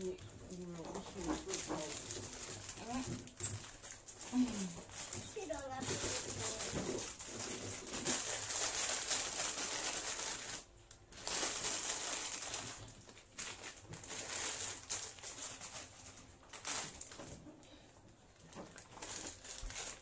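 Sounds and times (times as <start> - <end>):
plastic packet crinkling: 0.0 - 17.4, 18.4 - 20.0.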